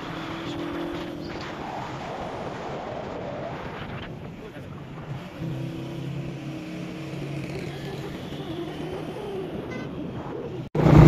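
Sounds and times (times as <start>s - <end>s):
motor vehicle engine hum: 0.0s - 11.0s
wind and road rush: 0.0s - 11.0s.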